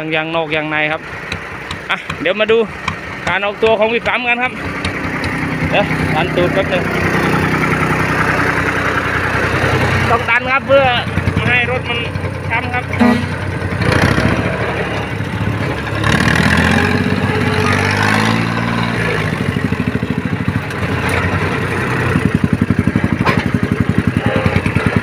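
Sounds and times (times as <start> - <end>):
truck engine under load: 0.0 - 25.0.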